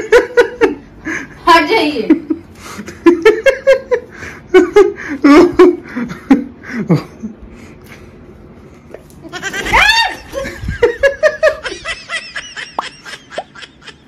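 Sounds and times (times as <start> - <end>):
woman laughing and giggling: 0.0 - 1.4, 2.0 - 7.4, 9.3 - 14.0.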